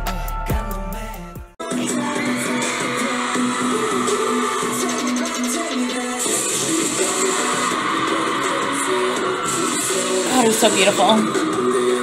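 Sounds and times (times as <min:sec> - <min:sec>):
hip-hop music with sliding bass: 0:00.0 - 0:12.0
live stage music: 0:00.0 - 0:12.0.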